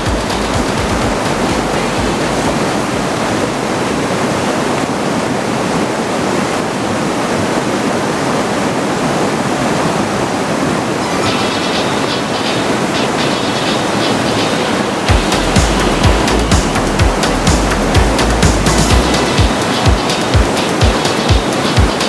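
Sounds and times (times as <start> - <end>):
stream rushing water roar: 0.0 - 22.0.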